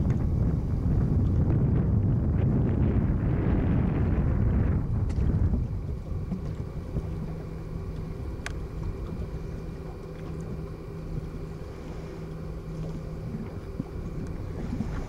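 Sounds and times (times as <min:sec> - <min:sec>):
boat engine humming: 0:00.0 - 0:15.0
wind on microphone: 0:00.0 - 0:15.0.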